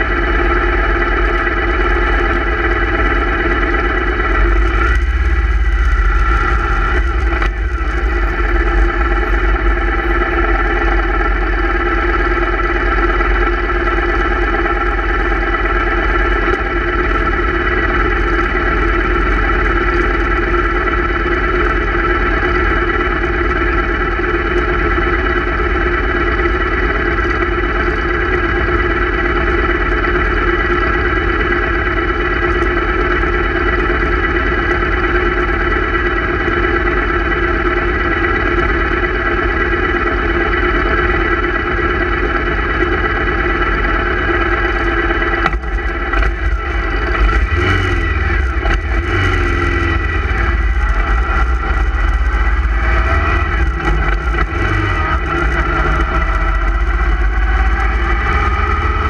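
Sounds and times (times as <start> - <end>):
motorcycle engines: 0.0 - 59.0.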